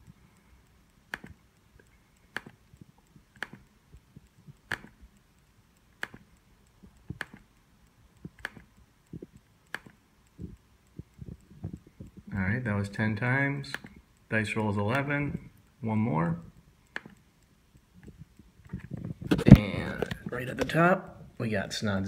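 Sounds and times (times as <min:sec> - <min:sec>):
computer mouse clicks: 0:00.0 - 0:12.3, 0:13.2 - 0:15.8, 0:16.4 - 0:20.9.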